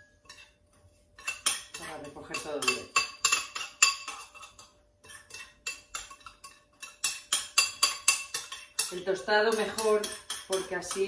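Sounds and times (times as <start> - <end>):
metal spoon scraping and tapping bowl: 0.0 - 11.0.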